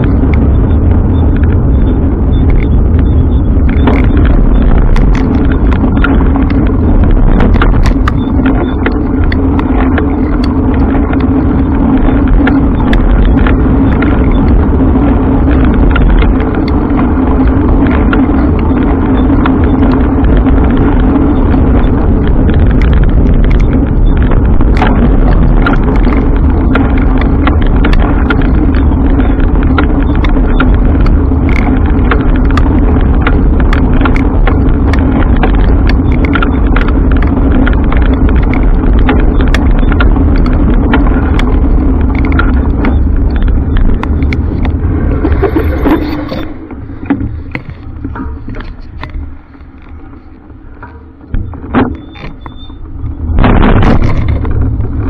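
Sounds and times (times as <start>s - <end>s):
bike riding rumble and hum: 0.0s - 55.0s
small clicks and rattles: 0.0s - 55.0s.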